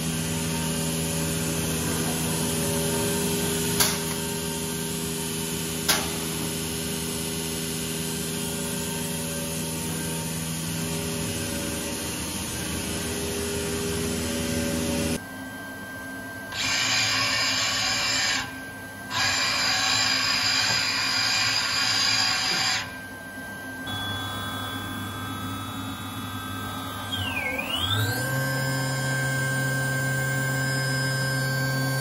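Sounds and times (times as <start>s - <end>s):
machine electric hum: 0.0s - 32.0s.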